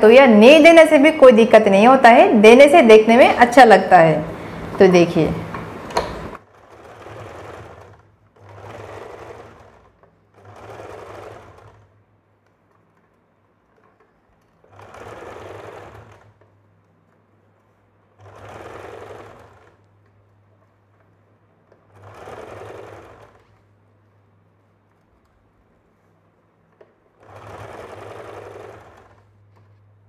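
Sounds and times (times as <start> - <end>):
sewing machine stitching: 4.3 - 30.0.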